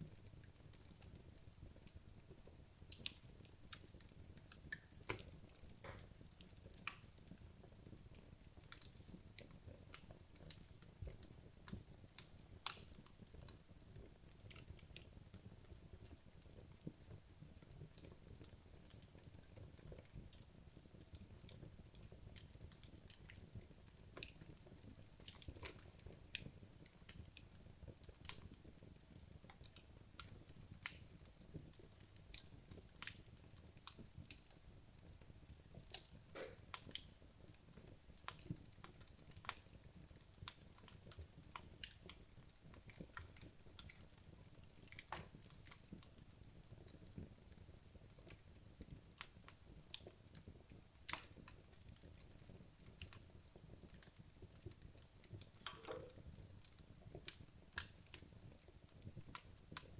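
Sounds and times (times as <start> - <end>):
fire crackles and pops: 0.0 - 59.9
logs burning in a fireplace: 0.0 - 59.9.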